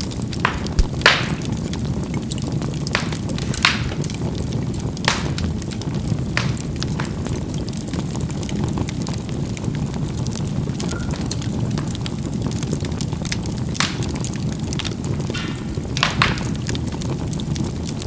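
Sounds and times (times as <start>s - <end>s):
coals crackling and popping: 0.0s - 18.0s
low rush of flame: 0.0s - 18.0s.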